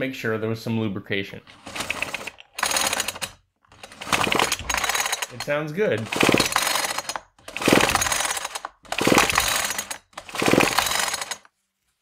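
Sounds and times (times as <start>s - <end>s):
chainsaw recoil starter pulled: 1.5s - 11.5s
engine cranking ratcheting whir: 1.5s - 11.5s.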